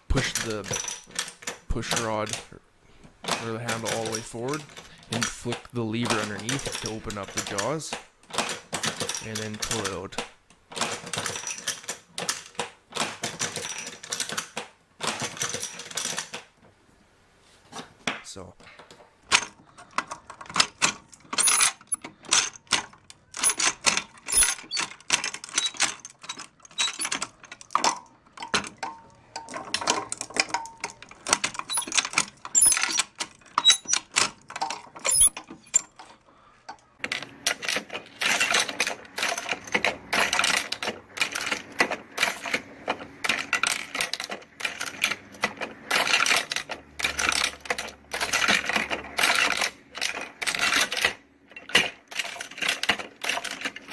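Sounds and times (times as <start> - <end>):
ammunition belt loader clacking: 0.1 - 2.6, 3.2 - 16.4, 18.8 - 53.9.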